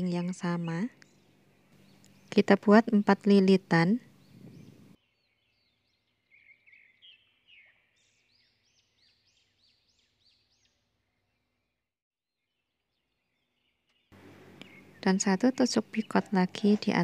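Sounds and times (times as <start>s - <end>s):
faint birdsong chirps: 0.0s - 17.0s.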